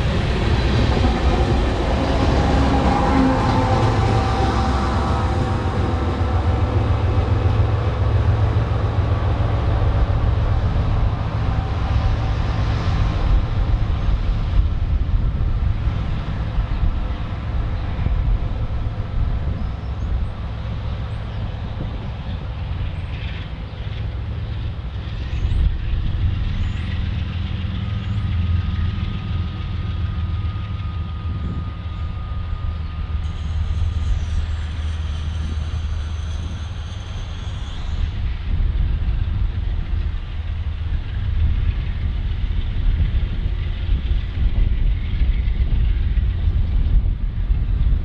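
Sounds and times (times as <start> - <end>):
diesel locomotive engine drone: 0.0 - 48.0
freight train rumbling: 0.0 - 48.0.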